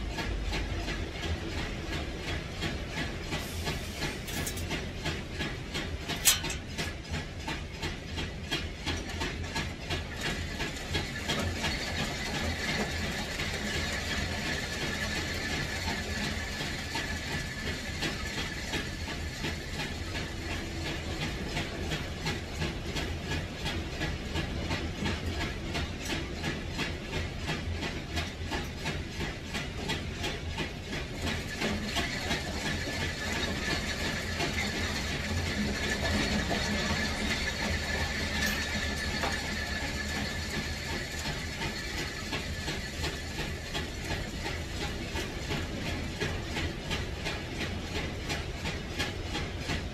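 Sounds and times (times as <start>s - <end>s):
machine clattering: 0.0s - 49.9s.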